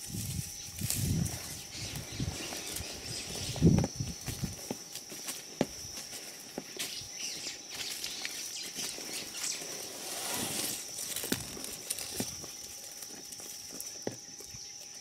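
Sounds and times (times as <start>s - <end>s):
animal scuffling in sawdust: 0.0s - 14.6s
high insect drone: 0.0s - 15.0s.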